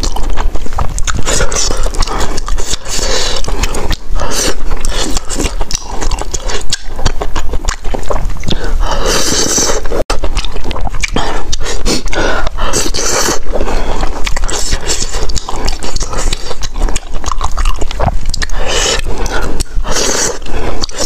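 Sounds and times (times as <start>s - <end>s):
wet chewing and mouth smacking: 0.0s - 21.0s.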